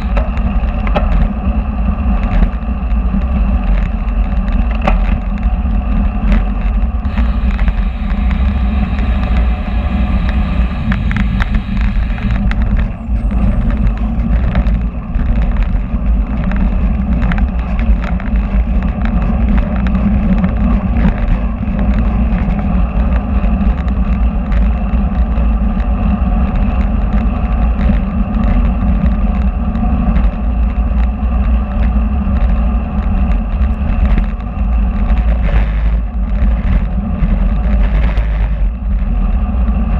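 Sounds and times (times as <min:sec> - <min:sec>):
road rumble: 0:00.0 - 0:39.9
wind buffeting microphone: 0:00.0 - 0:39.9.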